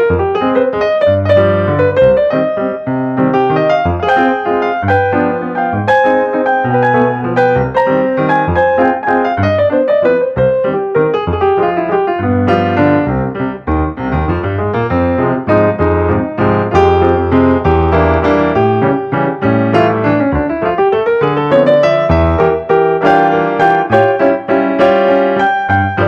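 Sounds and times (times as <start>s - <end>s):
background piano music: 0.0s - 26.0s.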